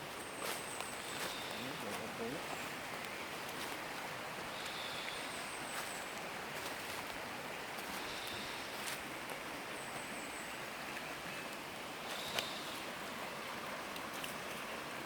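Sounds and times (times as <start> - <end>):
steady forest hiss: 0.0 - 15.0.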